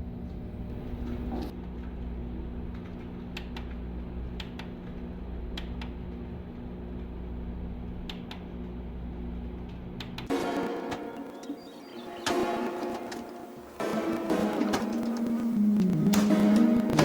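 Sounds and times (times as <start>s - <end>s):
computer fans humming: 0.0s - 17.0s.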